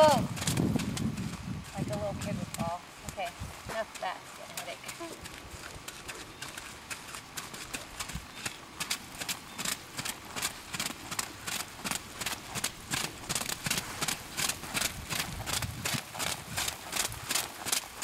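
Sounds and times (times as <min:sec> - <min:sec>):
hooves trotting on wet footing: 0:00.0 - 0:18.0.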